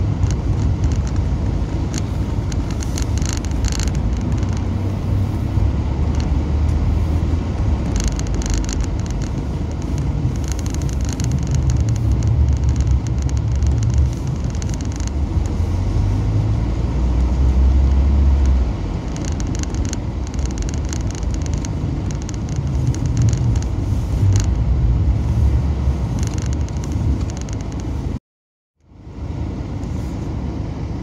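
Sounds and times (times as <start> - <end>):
car engine and tyre rumble: 0.0 - 28.2, 28.8 - 31.0
tyres crackling on snow: 0.0 - 28.2.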